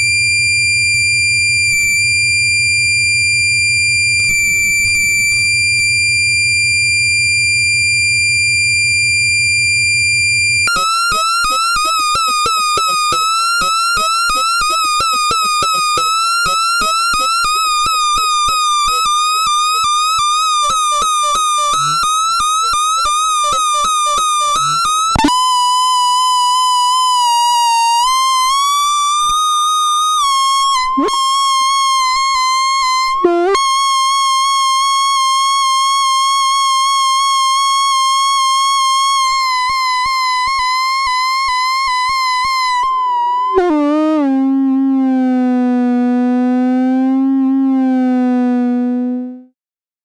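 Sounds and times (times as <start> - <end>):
electronic feedback tones: 0.0 - 48.3.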